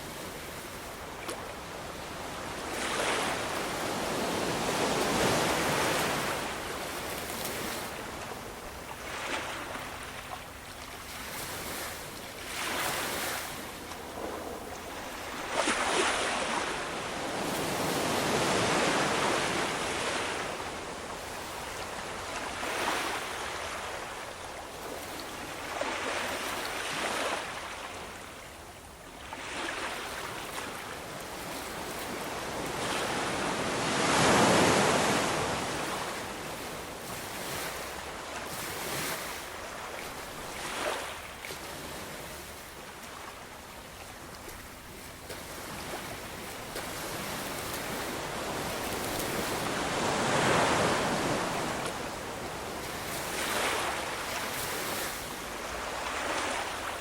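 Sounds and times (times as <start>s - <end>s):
ocean waves breaking: 0.0s - 20.8s, 31.4s - 57.0s.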